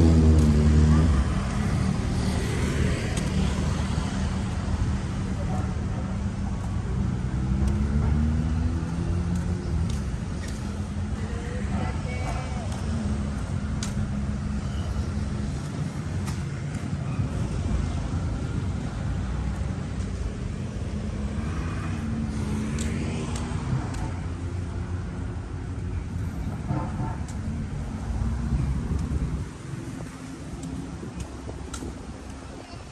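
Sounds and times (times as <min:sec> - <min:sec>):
vehicle passing: 0:00.0 - 0:32.4
vehicle engines running: 0:00.0 - 0:32.9.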